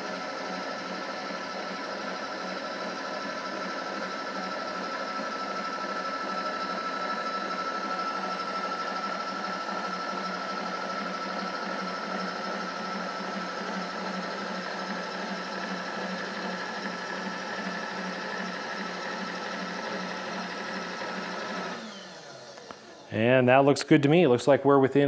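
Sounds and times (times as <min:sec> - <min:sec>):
power feed motor whining: 0:00.0 - 0:23.2.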